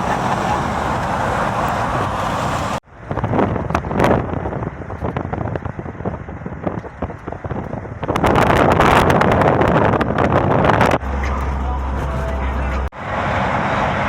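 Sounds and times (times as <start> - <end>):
road and wind noise: 0.0 - 14.0
wind buffeting microphone: 0.0 - 14.0.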